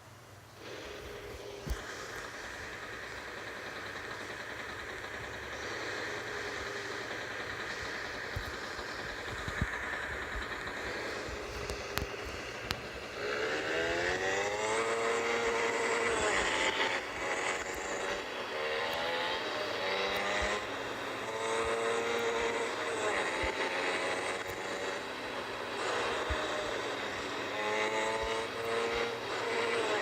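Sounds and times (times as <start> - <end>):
motorcycle engine accelerating: 0.5 - 30.0.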